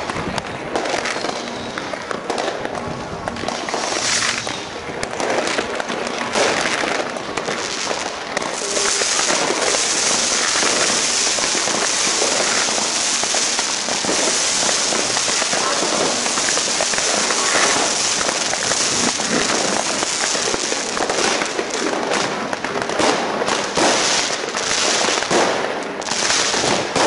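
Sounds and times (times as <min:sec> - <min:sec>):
fireworks bangs and crackles: 0:00.0 - 0:27.0
hissing crackle of sparks: 0:00.0 - 0:27.0.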